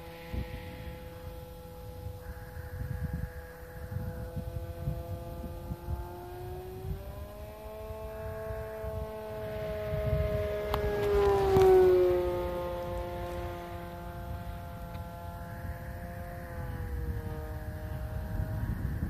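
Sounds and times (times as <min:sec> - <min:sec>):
model airplane motor droning: 0:00.0 - 0:19.0
wind buffeting microphone: 0:00.0 - 0:19.0.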